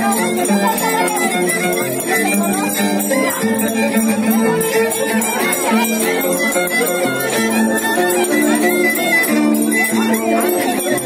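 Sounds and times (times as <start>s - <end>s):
plucked strings: 0.0s - 11.0s
violin playing: 0.0s - 11.0s.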